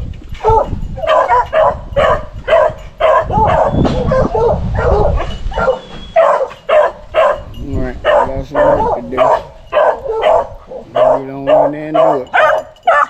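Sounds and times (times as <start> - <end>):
dogs barking: 0.4 - 13.0.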